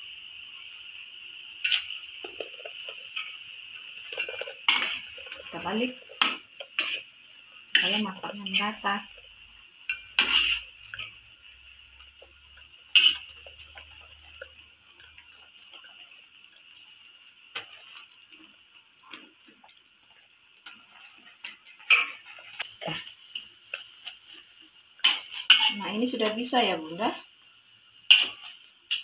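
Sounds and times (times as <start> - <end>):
water boiling in a wok: 0.0 - 29.0.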